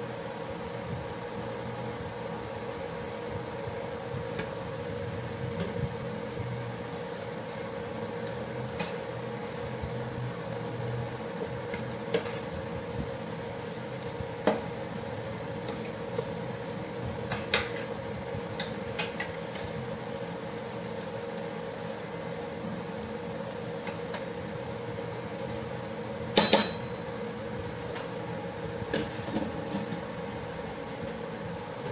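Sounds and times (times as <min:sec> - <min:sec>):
steady hum: 0:00.0 - 0:31.9.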